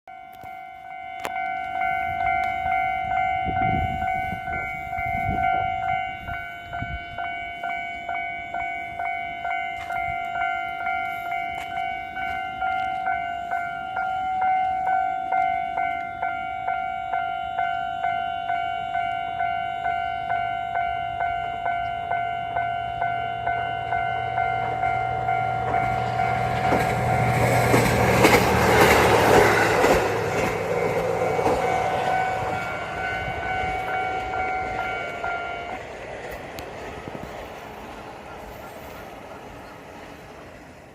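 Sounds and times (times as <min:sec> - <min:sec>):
level-crossing warning bell: 0:00.1 - 0:40.9
train wheels on rails: 0:00.2 - 0:40.9.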